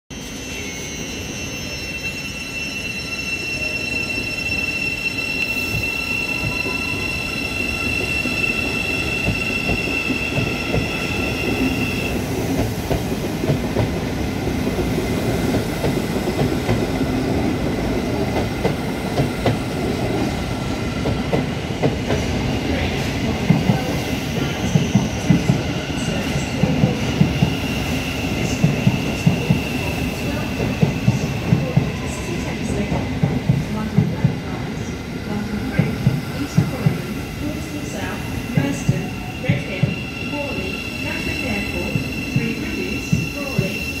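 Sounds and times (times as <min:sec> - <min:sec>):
train wheel rumble: 0:07.8 - 0:44.0.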